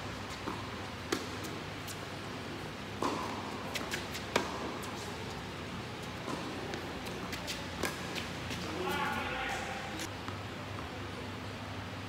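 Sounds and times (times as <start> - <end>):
hall background noise: 0.0 - 12.0.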